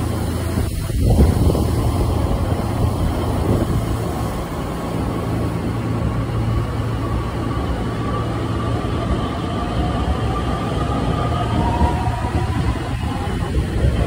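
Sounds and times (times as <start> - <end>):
electric train hum: 0.0 - 14.0.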